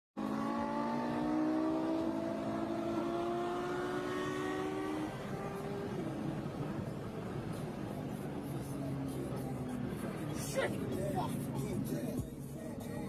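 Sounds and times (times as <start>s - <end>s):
car engine accelerating hard: 0.2s - 13.0s.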